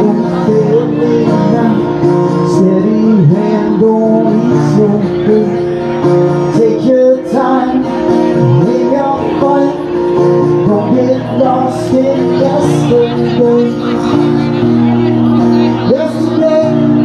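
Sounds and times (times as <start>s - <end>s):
man singing: 0.0s - 17.0s
strummed acoustic guitar: 0.0s - 17.0s.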